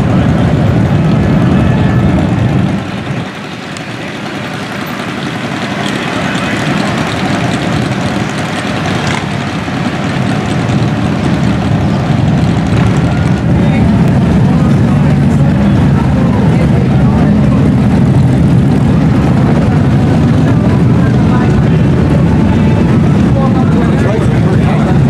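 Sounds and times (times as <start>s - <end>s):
motorcycles idling in traffic: 0.0s - 25.0s.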